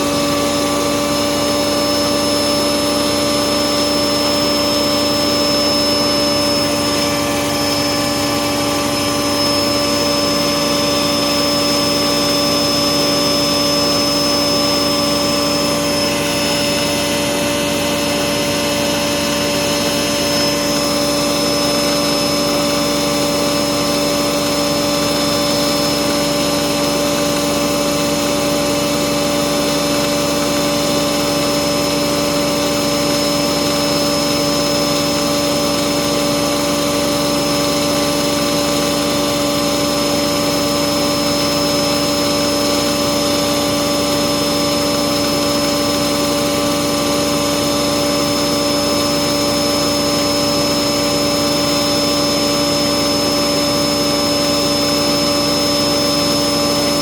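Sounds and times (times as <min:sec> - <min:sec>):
washing machine motor whine: 0:00.0 - 0:57.0.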